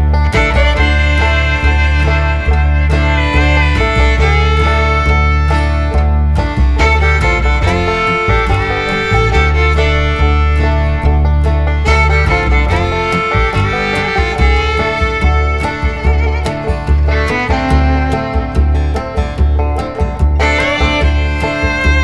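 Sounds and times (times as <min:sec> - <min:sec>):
bluegrass music with fiddle: 0:00.0 - 0:22.0.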